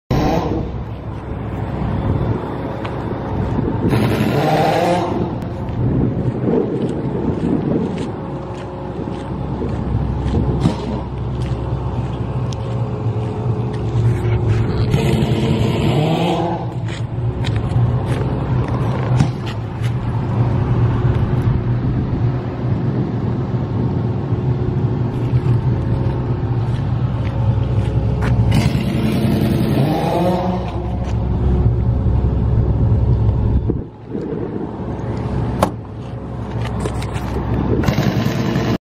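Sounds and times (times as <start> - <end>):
generator engine droning: 0.1 - 38.8.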